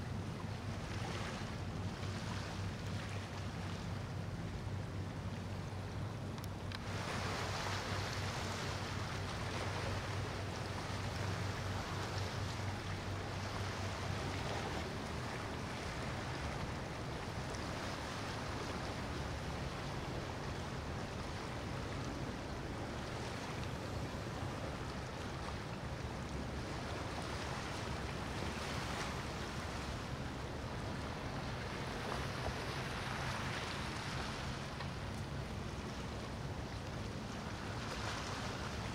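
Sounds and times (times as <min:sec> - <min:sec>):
low boat engine drone: 0:00.0 - 0:38.9
wake water rushing: 0:00.0 - 0:38.9
wind: 0:00.0 - 0:38.9.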